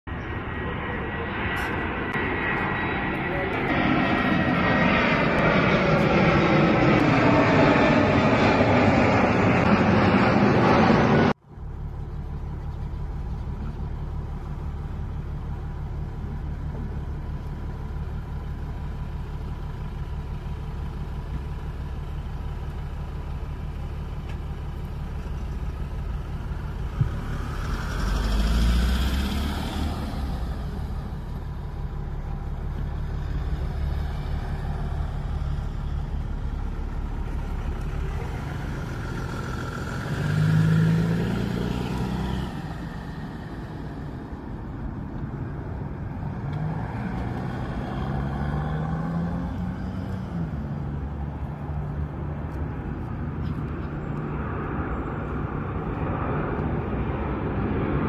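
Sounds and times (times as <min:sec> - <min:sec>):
low rumble of engines and traffic: 0:00.0 - 0:58.0
jet airliner passing overhead: 0:00.1 - 0:58.0.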